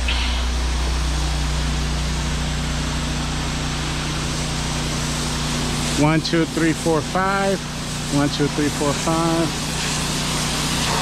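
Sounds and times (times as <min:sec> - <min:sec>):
low machine hum: 0:00.0 - 0:11.0
pressure washer spraying: 0:00.0 - 0:11.0.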